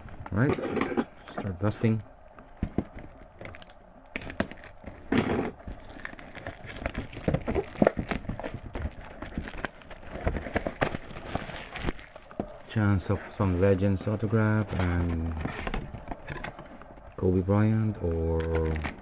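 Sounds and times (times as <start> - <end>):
card packaging crackling: 2.4 - 19.0.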